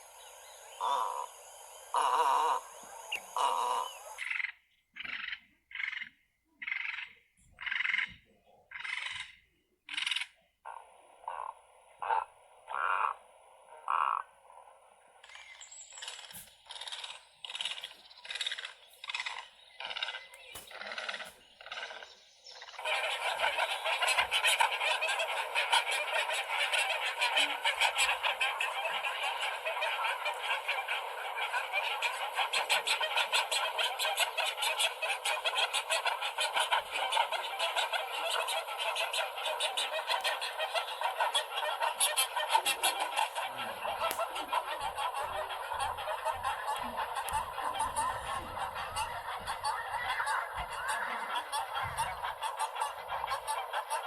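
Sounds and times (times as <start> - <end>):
egrets croaking: 0.0 - 6.1, 6.7 - 54.0.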